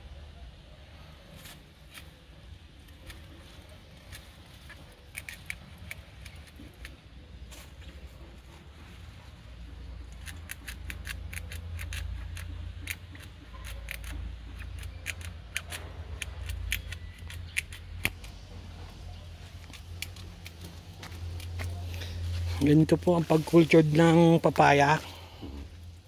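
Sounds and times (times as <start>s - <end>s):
steady low rumble: 2.4s - 26.0s.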